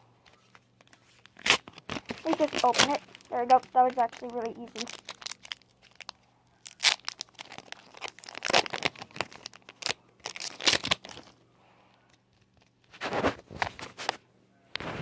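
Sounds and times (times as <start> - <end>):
foil wrapper crinkling: 0.2 - 11.4, 12.1 - 14.2.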